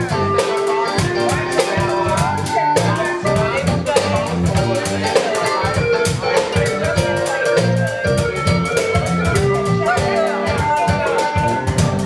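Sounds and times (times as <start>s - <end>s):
bending melody line: 0.0s - 12.0s
drum kit groove: 0.0s - 12.0s
electric bass: 0.0s - 12.0s
guitar: 0.0s - 12.0s.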